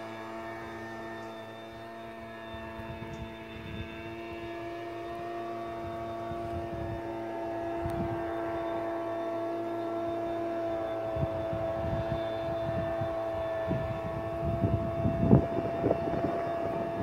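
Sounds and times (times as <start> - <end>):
small engine droning: 0.0 - 17.0.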